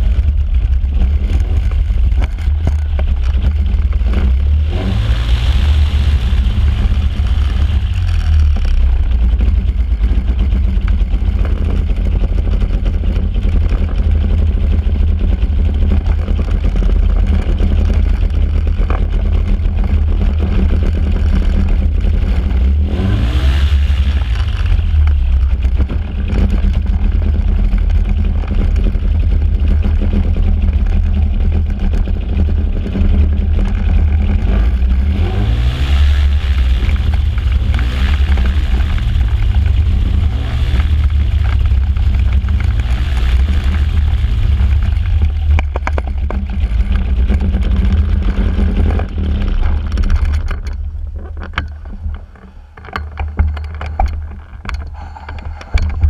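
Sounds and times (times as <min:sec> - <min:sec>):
engine and propeller running unevenly: 0:00.0 - 0:56.0
propeller running down: 0:00.0 - 0:56.0.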